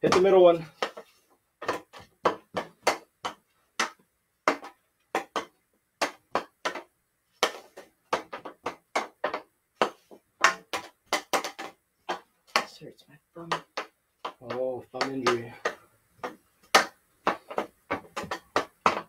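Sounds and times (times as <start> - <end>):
hockey stick clacking a ball: 0.0 - 12.8, 13.5 - 19.0.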